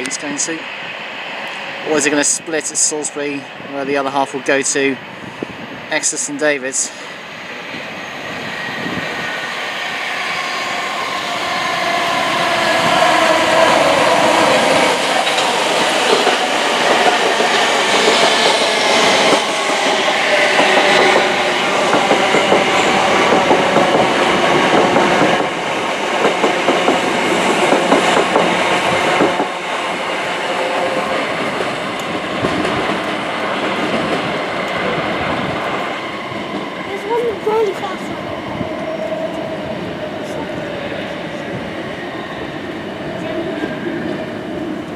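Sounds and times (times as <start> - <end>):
diesel train engine passing: 0.0 - 44.9
wheels on rail noise: 0.0 - 44.9.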